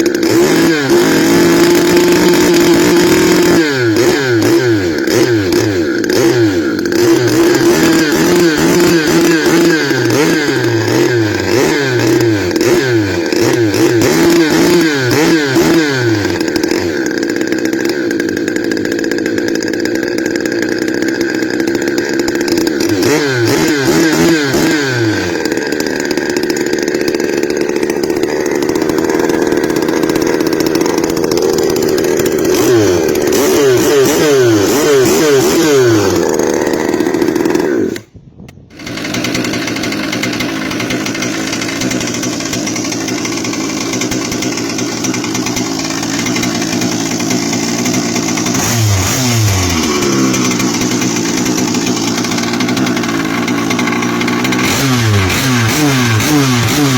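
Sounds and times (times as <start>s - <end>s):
model boat engine revving: 0.0s - 38.1s, 38.7s - 56.9s.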